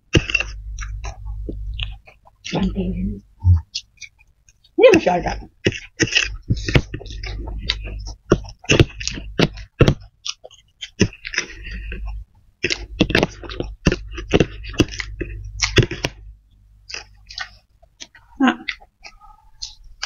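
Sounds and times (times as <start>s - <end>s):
chewing noodles: 0.0s - 2.7s, 5.5s - 20.0s.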